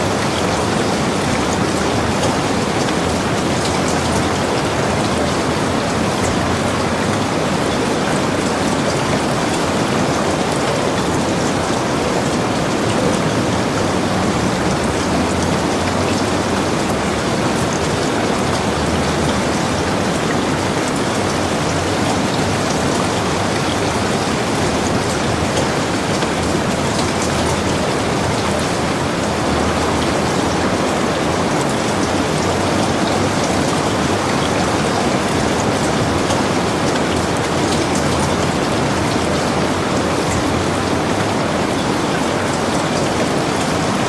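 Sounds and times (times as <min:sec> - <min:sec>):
heavy rain falling: 0:00.0 - 0:44.0
raindrops pattering: 0:00.0 - 0:44.0.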